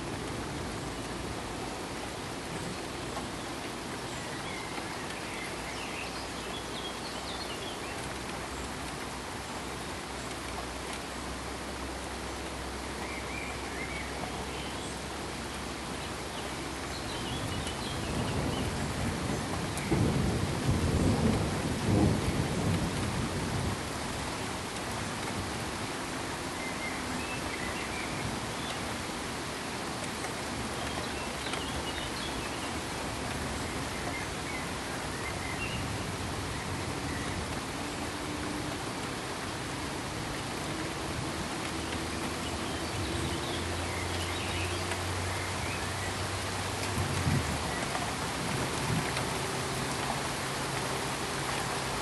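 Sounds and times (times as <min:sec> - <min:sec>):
pink noise hiss: 0:00.0 - 0:52.0.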